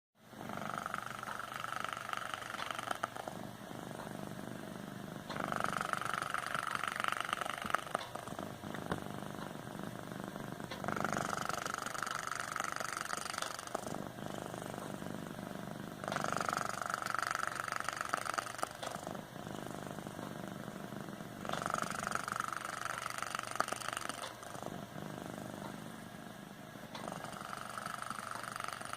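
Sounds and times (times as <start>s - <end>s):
cat snoring: 0.3s - 28.9s.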